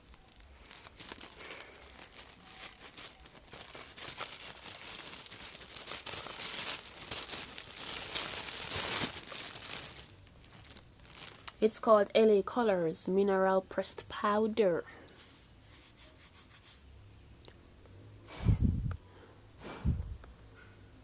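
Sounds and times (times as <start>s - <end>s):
crinkling and rustling of items: 0.0s - 17.6s.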